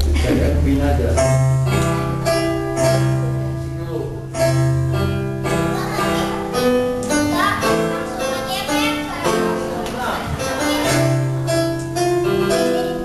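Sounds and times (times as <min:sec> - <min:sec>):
electronic keyboard chords: 0:00.0 - 0:13.0.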